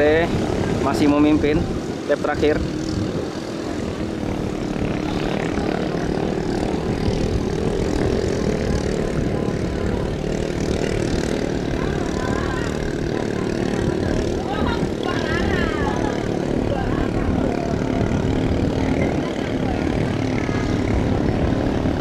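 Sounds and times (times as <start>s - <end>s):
racing boat engines droning: 0.0s - 22.0s.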